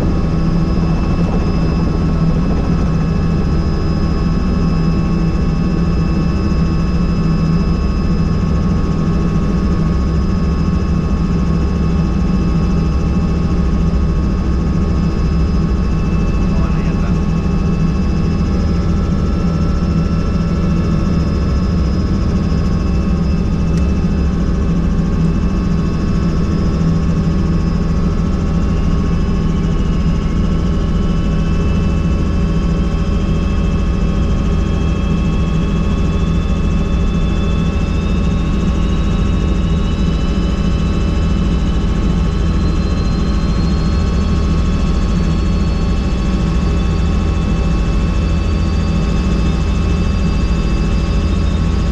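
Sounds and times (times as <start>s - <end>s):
faint high whine: 0.0s - 51.9s
helicopter engine and rotor drone: 0.0s - 51.9s.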